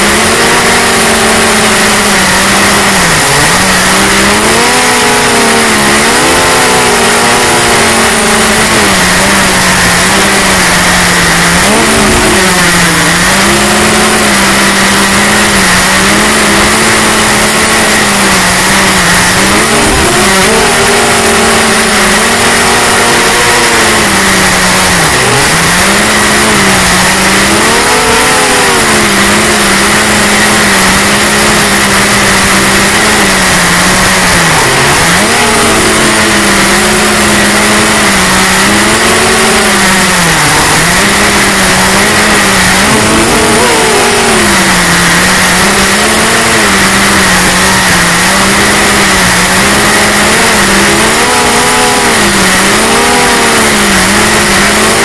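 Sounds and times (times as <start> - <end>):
model aircraft motor buzzing: 0.0 - 55.0.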